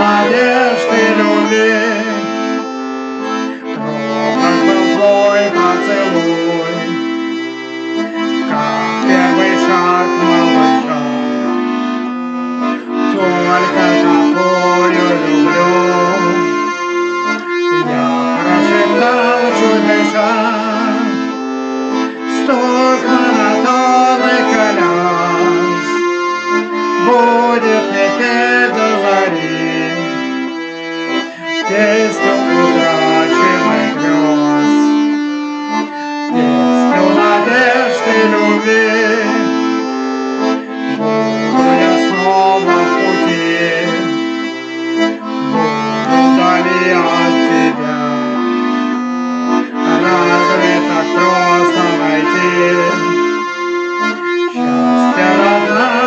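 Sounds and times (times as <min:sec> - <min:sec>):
accordion melody: 0:00.0 - 0:56.0.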